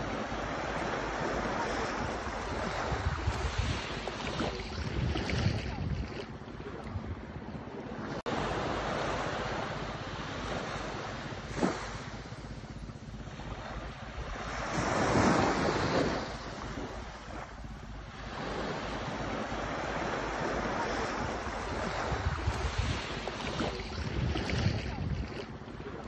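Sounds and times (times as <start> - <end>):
small waves washing on beach: 0.0 - 26.0.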